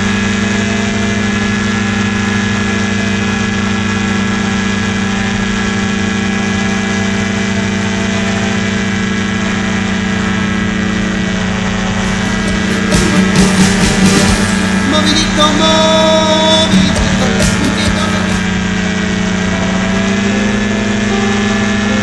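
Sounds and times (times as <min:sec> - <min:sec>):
engine and propeller droning: 0:00.0 - 0:22.0.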